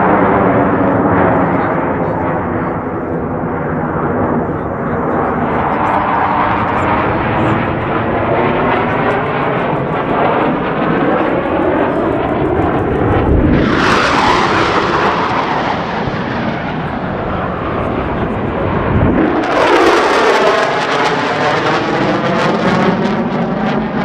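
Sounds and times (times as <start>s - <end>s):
fighter jets roaring overhead: 0.0s - 24.0s.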